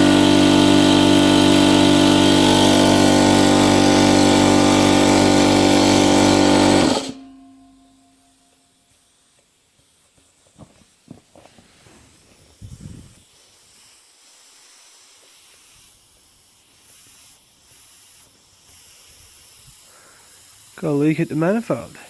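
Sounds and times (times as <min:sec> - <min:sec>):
compressed air hissing: 0:00.0 - 0:07.2, 0:08.8 - 0:22.0.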